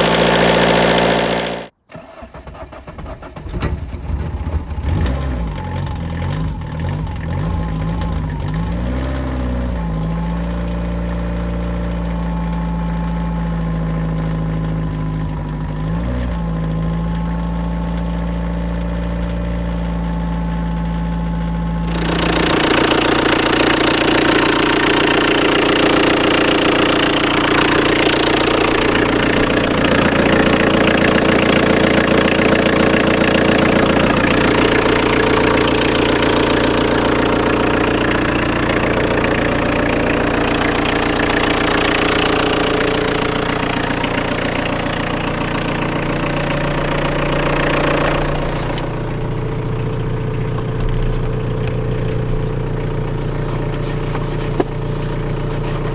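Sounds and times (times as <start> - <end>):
diesel engine idling: 4.6 - 55.9.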